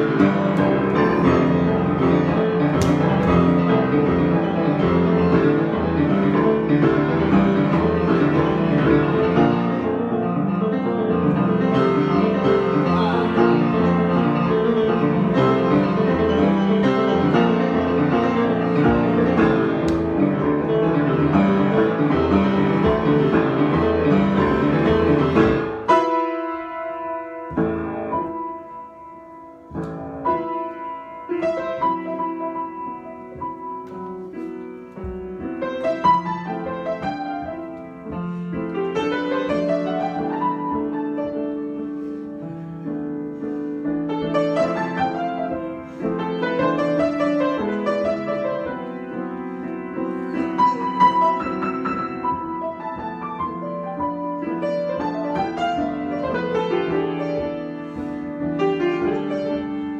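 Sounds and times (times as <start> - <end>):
solo piano improvisation: 0.0 - 59.9.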